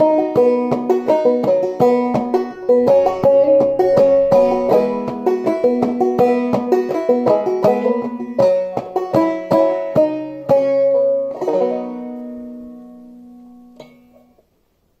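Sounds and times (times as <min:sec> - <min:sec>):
banjo picking: 0:00.0 - 0:14.6.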